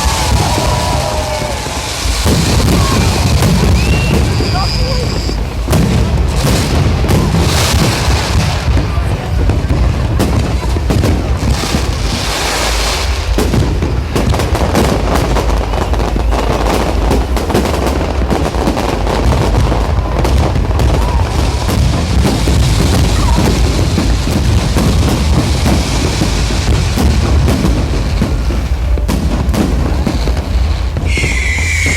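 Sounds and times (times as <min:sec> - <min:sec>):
fireworks booms and bangs: 0:00.0 - 0:31.9
heavy low rumble: 0:00.0 - 0:31.9.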